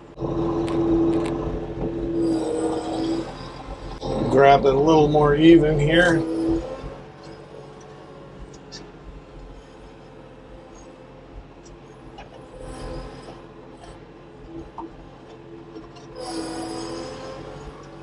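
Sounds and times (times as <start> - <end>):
steady whining tone: 0.0 - 18.0
tractor engine running: 0.0 - 18.0.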